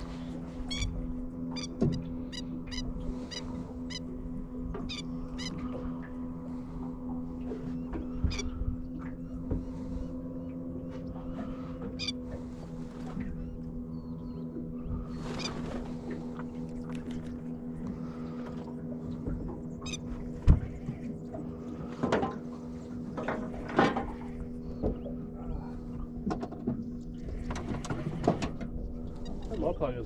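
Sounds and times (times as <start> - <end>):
steady low hum with tones: 0.0 - 30.0.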